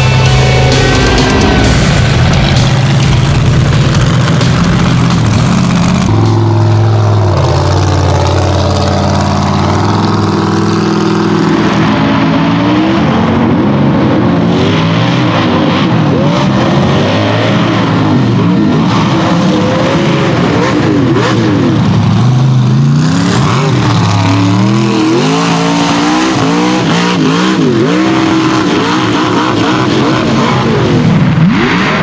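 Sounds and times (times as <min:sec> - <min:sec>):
race vehicle engines revving: 0:00.0 - 0:32.0.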